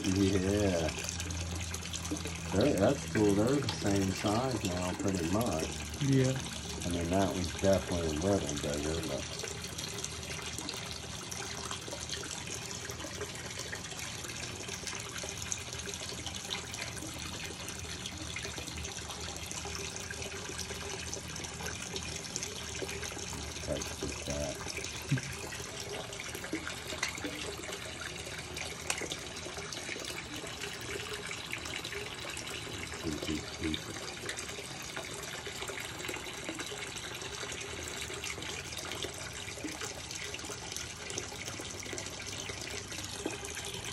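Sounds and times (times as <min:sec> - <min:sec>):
water splashing from aquarium filter: 0:00.0 - 0:43.9.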